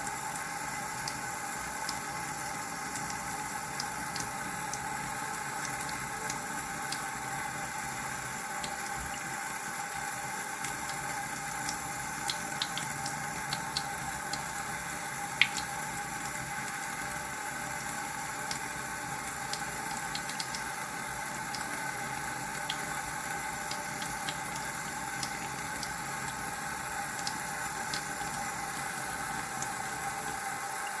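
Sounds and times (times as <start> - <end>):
running water: 0.0 - 31.0
small clicks and drips: 0.0 - 31.0.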